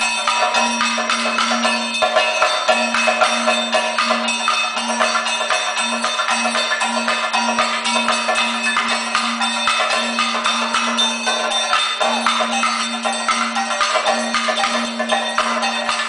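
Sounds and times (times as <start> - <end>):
fast dense drumming: 0.0 - 16.0
gong and cymbals ringing: 0.0 - 16.0.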